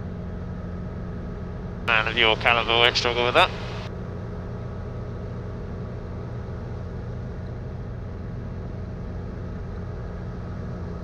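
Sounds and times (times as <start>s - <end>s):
helicopter engine and rotors drone: 0.0s - 11.0s.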